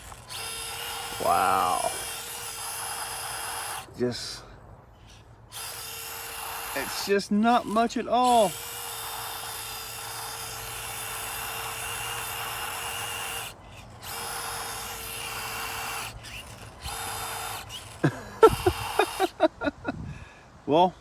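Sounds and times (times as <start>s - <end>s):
small electric motor whining: 0.0s - 19.9s.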